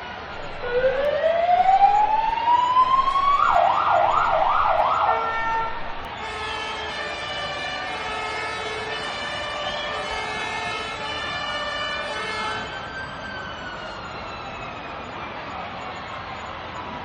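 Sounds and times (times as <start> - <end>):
police and fire-engine sirens: 0.0 - 17.0.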